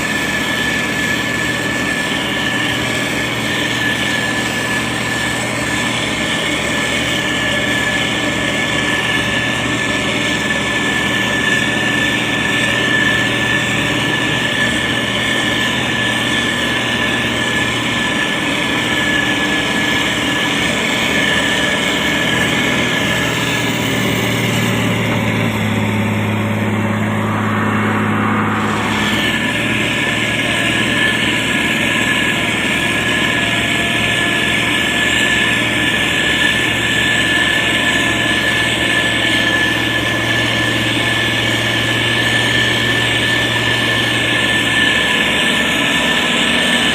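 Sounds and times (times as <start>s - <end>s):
diesel engine running: 0.0s - 46.9s
steady high whine: 0.0s - 46.9s.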